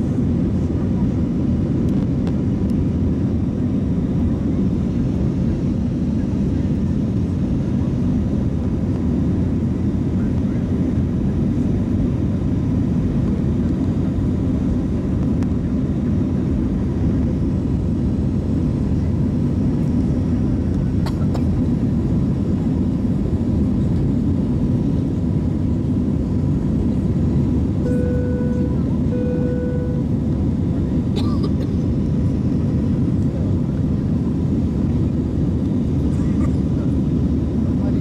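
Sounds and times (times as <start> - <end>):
jet airliner cabin rumble: 0.0 - 38.0.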